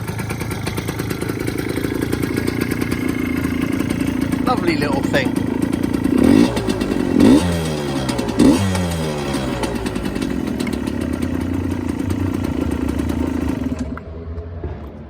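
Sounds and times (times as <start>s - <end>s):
two-stroke engine revving and idling: 0.0s - 14.2s.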